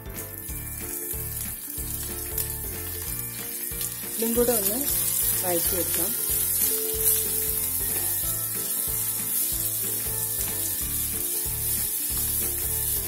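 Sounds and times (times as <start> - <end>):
background music: 0.0 - 13.0
onions sizzling in oil: 0.0 - 13.0.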